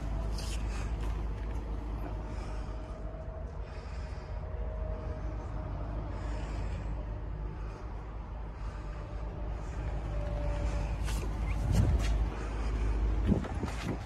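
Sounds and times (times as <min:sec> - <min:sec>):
excavator diesel engine idling: 0:00.0 - 0:14.0.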